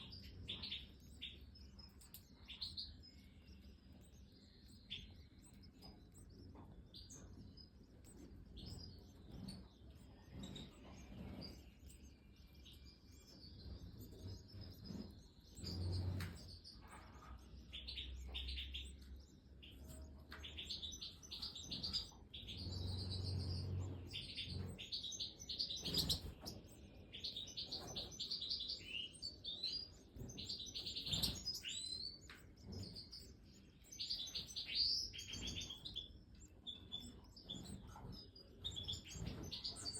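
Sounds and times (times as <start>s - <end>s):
goldfinches chirping: 0.0s - 39.9s.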